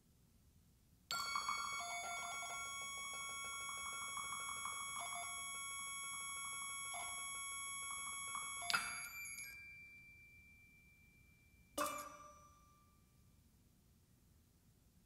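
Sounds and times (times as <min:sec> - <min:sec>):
high steady ringing tones: 0:01.1 - 0:13.2.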